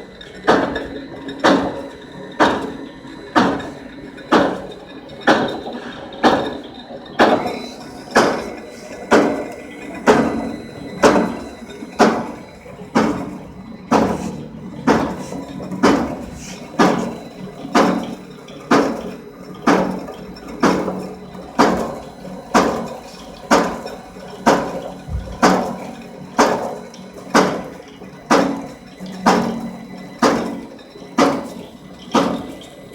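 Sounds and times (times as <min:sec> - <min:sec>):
cutting machine knocking: 0:00.4 - 0:32.9.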